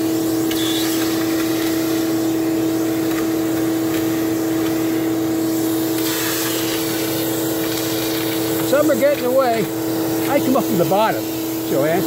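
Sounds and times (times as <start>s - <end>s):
shop vac motor running: 0.0s - 12.0s.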